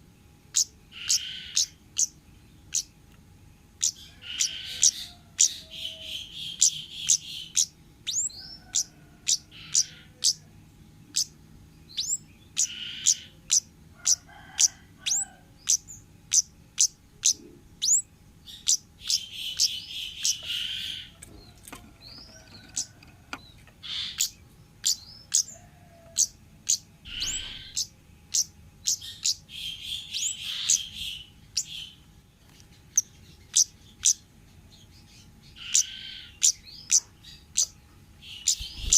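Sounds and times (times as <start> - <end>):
buzzy churring bird phrases: 0.4 - 3.0, 3.6 - 32.1, 32.8 - 38.9
sharp high bird calls: 0.5 - 3.0, 3.8 - 10.5, 11.1 - 32.1, 32.8 - 38.9.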